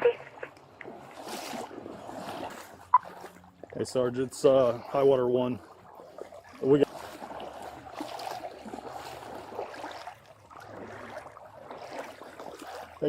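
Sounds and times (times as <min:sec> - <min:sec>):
floodwater sloshing and rushing: 0:00.0 - 0:13.0
low engine hum: 0:00.0 - 0:13.0.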